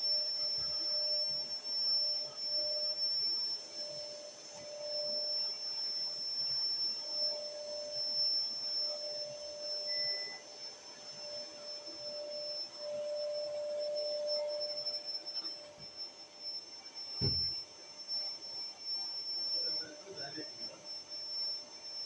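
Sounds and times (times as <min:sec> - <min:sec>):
vacuum cleaner running on carpet: 0:00.0 - 0:22.0.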